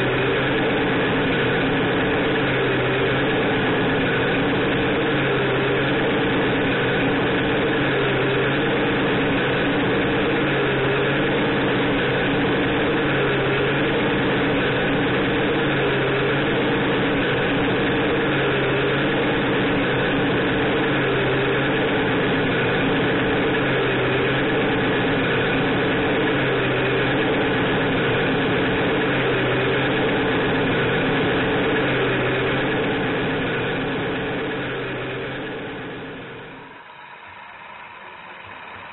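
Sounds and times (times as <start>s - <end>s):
simulated diesel truck engine: 0.0s - 38.9s.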